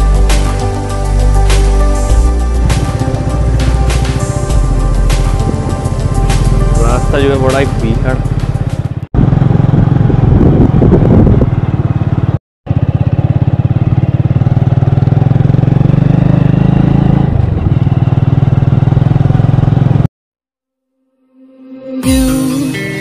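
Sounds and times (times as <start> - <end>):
motorcycle engine running: 0.0 - 20.1.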